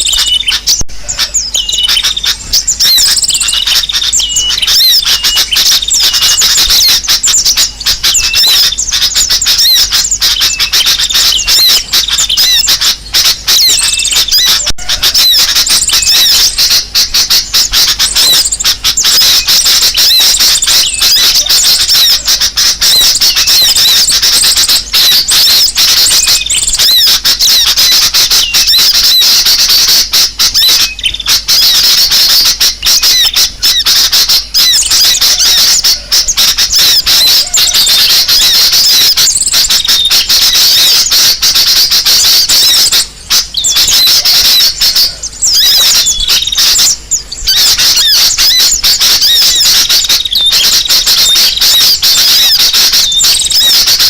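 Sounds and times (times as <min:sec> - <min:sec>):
small birds chattering: 0:00.0 - 0:54.0.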